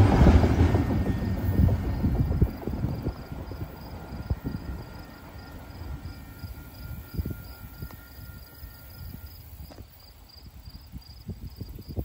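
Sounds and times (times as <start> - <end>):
crickets chirping: 0.0 - 12.0
wind rumble on microphone: 0.0 - 12.0.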